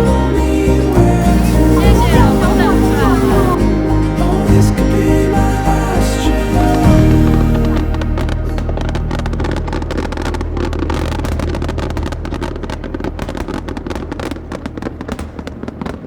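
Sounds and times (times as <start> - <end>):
fireworks crackling and popping: 0.0 - 4.0, 6.4 - 16.0
deep rumble: 0.0 - 16.0.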